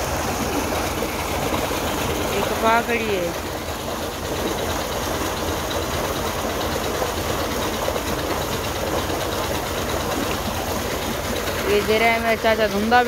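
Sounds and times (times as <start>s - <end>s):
diesel engine running: 0.0s - 13.0s
water gushing from outlet: 0.0s - 13.0s.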